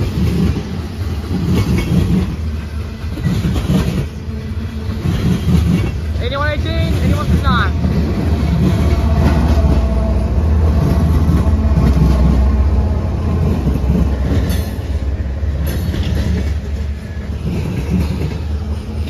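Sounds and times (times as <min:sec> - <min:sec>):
deep locomotive engine rumble: 0:00.0 - 0:19.0
train wheels clattering on rail: 0:00.0 - 0:19.0.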